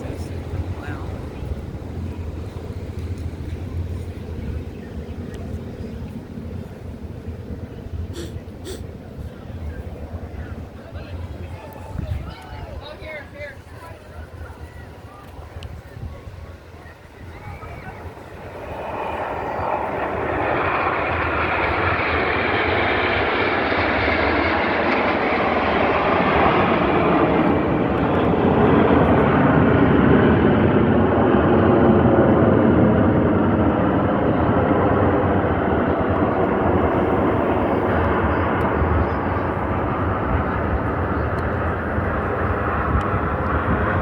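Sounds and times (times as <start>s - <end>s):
aircraft engine flying past: 0.0s - 44.0s.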